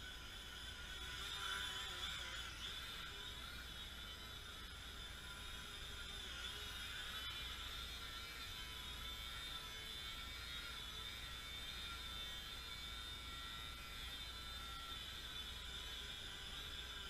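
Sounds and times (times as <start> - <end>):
model plane electric motor buzzing: 0.0 - 17.0.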